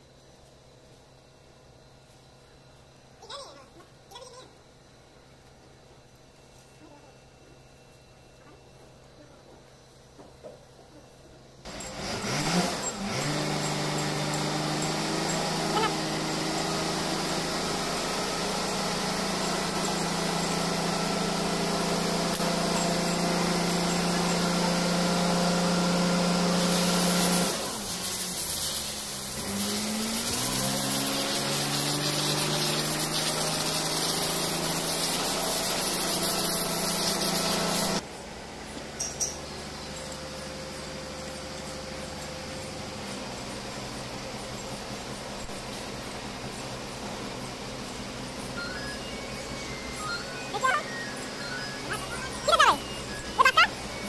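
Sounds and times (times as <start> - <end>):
motor running with low hum: 0.0 - 54.0.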